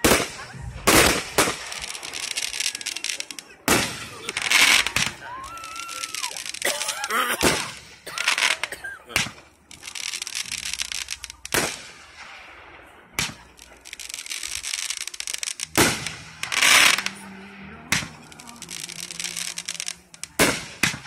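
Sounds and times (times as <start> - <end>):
firework shells bursting: 0.0 - 17.3, 17.9 - 21.0
fireworks crackling: 0.0 - 21.0.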